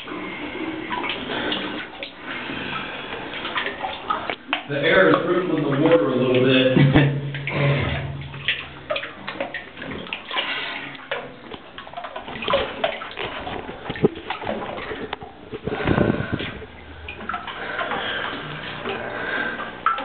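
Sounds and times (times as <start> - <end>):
small water splashes: 0.0 - 20.0
water sloshing and gurgling: 0.0 - 20.0.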